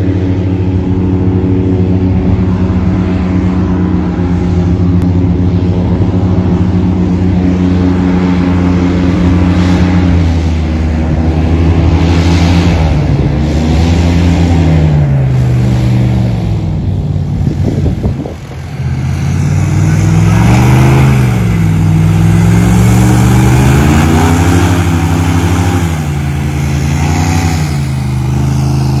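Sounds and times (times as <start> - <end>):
airboat engine and propeller: 0.0 - 29.0.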